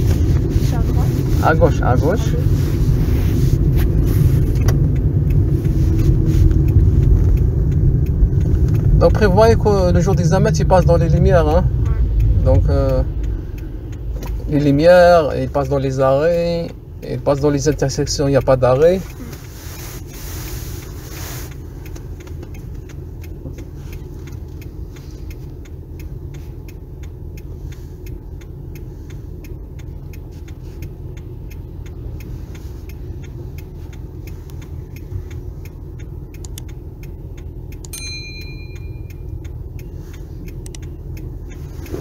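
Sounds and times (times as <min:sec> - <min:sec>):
car engine idling: 0:00.0 - 0:42.0
turn signal clicking: 0:00.0 - 0:42.0.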